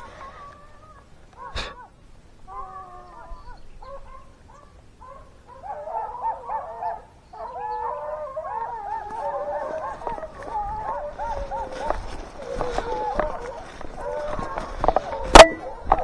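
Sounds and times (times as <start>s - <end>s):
hounds baying: 2.5s - 16.0s.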